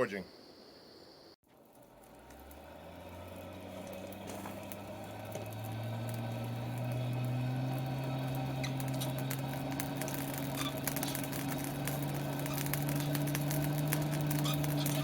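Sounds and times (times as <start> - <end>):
light crackles and ticks: 1.5 - 15.0
motor humming: 1.7 - 15.0.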